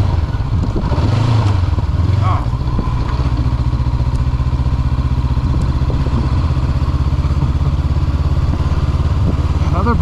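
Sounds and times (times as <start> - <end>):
motorcycle engine idling: 1.6 - 10.0.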